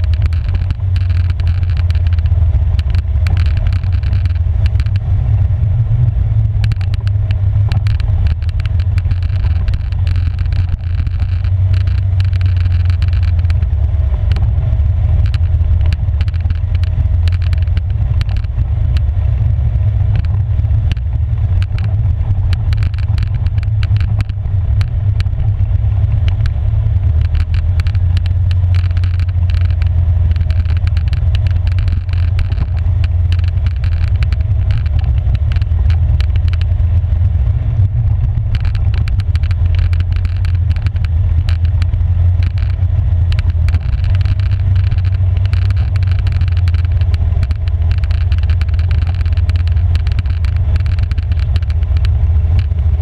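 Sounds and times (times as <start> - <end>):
tyres on gravel: 0.0 - 5.2, 6.5 - 19.1, 20.2 - 53.0
atv engine running: 0.0 - 53.0.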